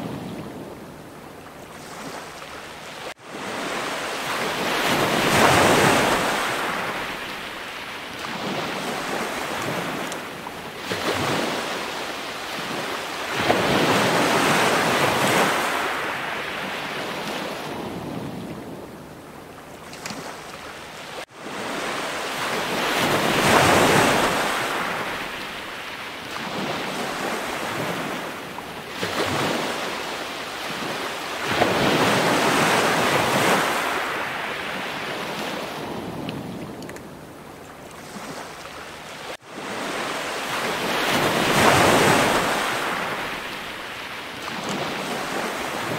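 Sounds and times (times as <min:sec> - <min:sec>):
waves washing on shore: 0:00.0 - 0:45.9.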